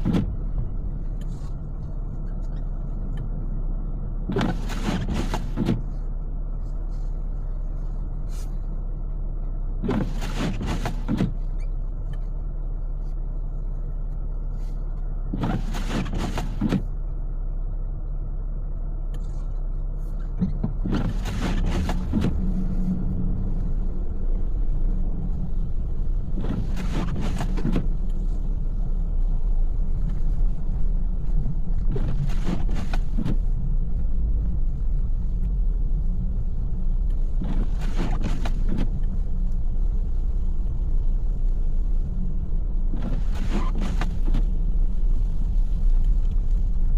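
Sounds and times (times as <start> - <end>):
windshield wipers swishing: 0.0 - 17.0, 19.1 - 46.9
car interior low rumble: 0.0 - 46.9.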